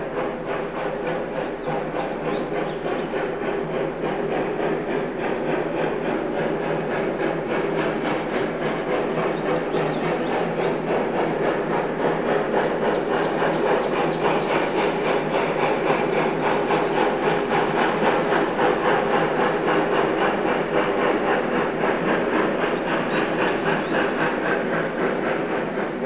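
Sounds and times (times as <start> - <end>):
steam locomotive chugging: 0.0 - 26.0.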